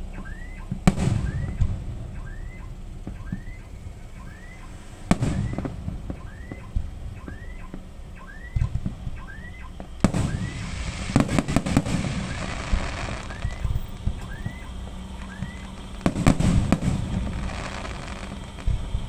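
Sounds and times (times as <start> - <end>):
fireworks bursting: 0.0 - 19.0
fireworks crackling: 0.0 - 19.0.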